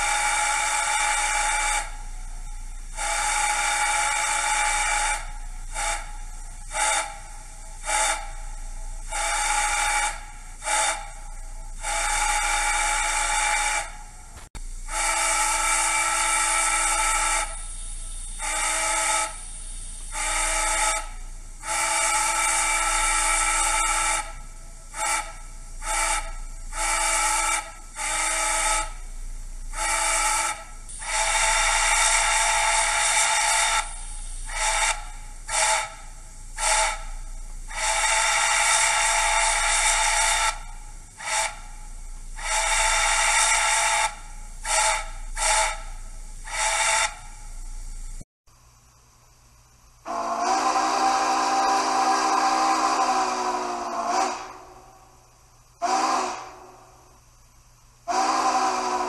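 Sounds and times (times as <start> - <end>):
steam whistle blasts: 0.0 - 47.7, 50.0 - 57.2, 58.0 - 59.0
steam hiss: 0.0 - 48.9, 50.0 - 59.0.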